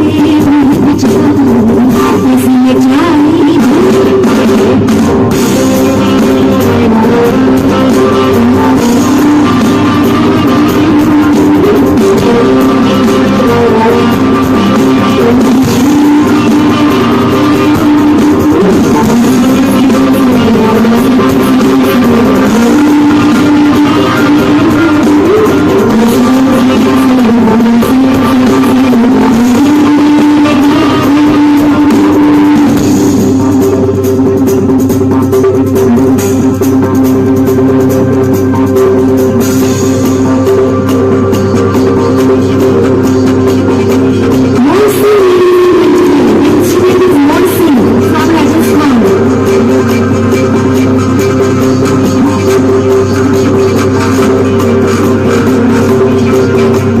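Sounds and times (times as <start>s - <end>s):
live fusion band music: 0.0s - 57.0s
drum strikes: 0.2s - 57.0s.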